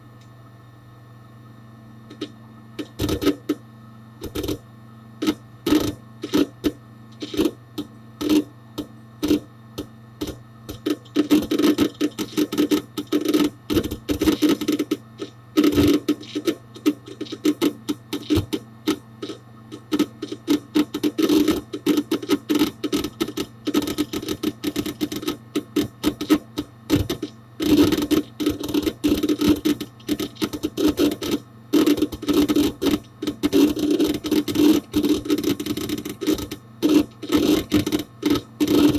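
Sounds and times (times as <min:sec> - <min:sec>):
hard disk clicking and chattering: 0:01.9 - 0:38.9.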